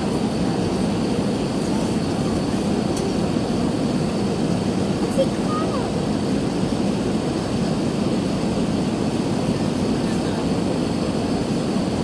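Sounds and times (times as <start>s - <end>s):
airplane cabin engine roar: 0.0s - 12.0s.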